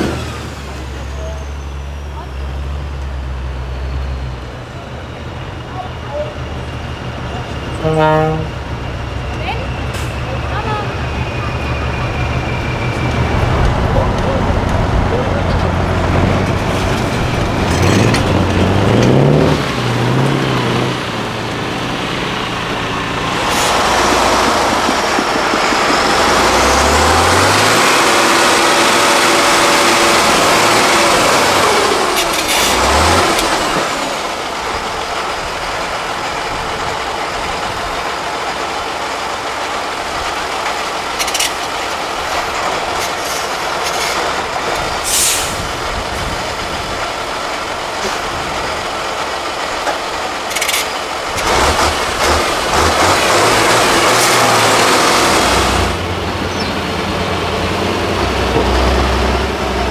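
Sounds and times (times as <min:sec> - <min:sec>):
truck diesel engine revving: 0:00.0 - 0:59.9.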